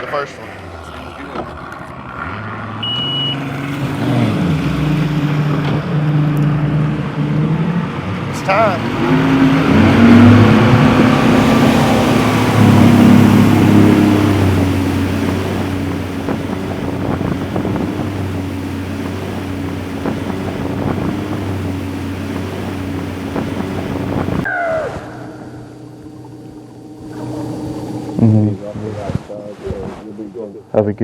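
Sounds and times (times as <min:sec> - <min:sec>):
outboard engine running: 0:00.0 - 0:31.0
water noise: 0:00.0 - 0:31.0
wind noise: 0:03.6 - 0:30.3.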